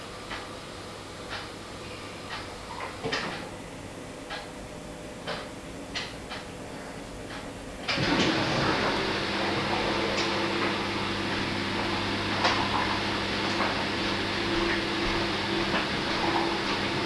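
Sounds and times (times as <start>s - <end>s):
machine humming and hissing: 0.0s - 17.0s.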